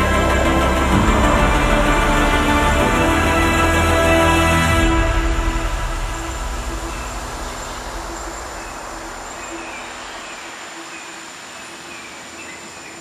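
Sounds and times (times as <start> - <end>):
sustained low soundtrack tone: 0.0 - 10.8.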